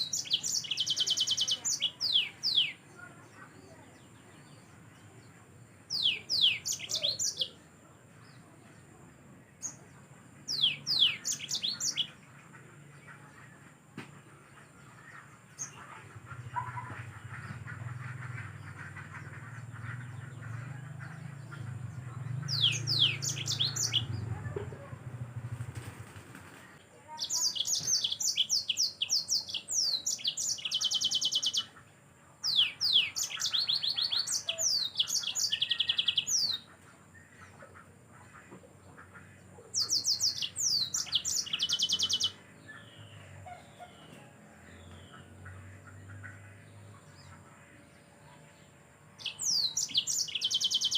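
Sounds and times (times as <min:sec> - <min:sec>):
canary singing: 0:00.0 - 0:04.7, 0:05.8 - 0:07.7, 0:09.6 - 0:12.3, 0:15.2 - 0:26.2, 0:27.1 - 0:37.7, 0:39.0 - 0:50.9.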